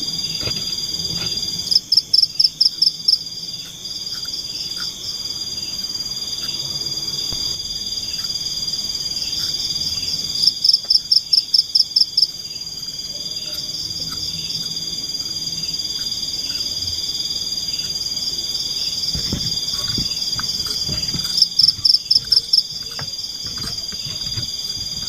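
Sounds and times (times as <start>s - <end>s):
insects droning: 0.0s - 25.0s
rapid insect chirps: 0.0s - 25.0s.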